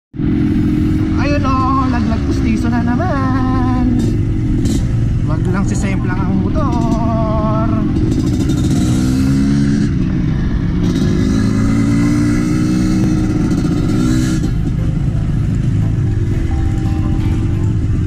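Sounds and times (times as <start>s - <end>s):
dirt bike engine accelerating: 0.2s - 18.0s.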